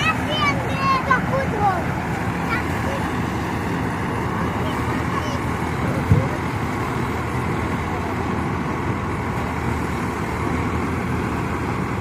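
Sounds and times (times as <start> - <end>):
tractor diesel engine rumbling: 0.0 - 12.0.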